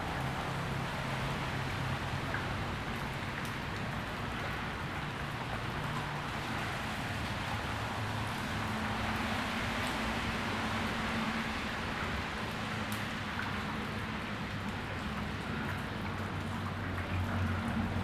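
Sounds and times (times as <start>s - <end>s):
rain: 0.0s - 18.0s.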